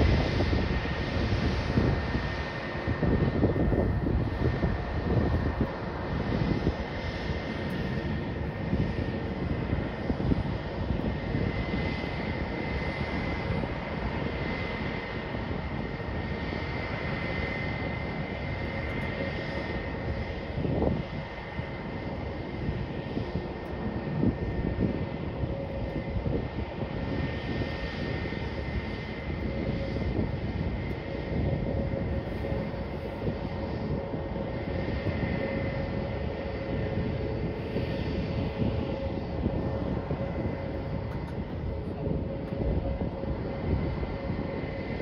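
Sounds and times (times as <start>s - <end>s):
distant jet engines at takeoff: 0.0s - 45.0s.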